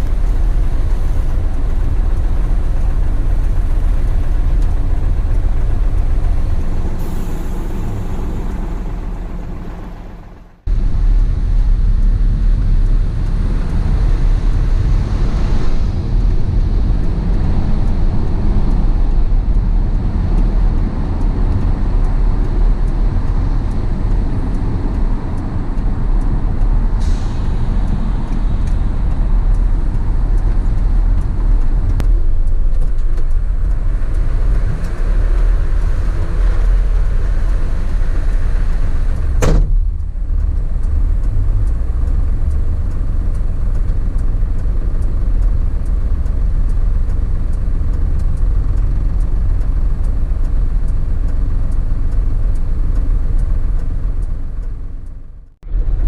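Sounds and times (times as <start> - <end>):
heavy vehicle engine and road rumble: 0.0 - 56.0.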